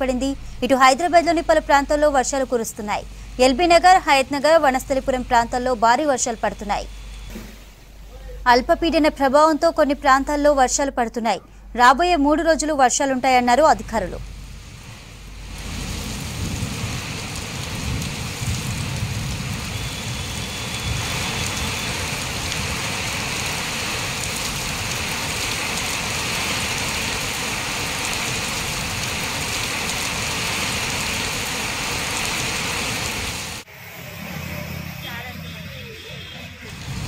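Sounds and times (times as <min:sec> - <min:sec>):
heavy rain pouring: 0:00.0 - 0:06.6, 0:13.4 - 0:37.0.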